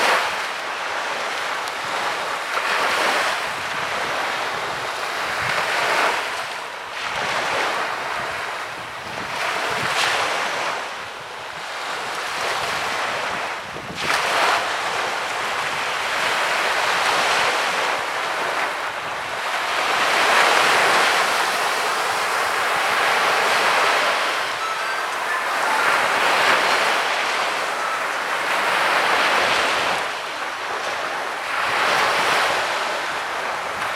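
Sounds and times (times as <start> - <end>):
sea waves breaking on beach: 0.0 - 33.9.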